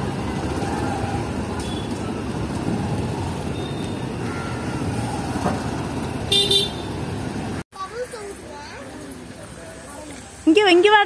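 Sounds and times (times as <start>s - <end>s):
motorbike and car engines: 0.0s - 10.5s.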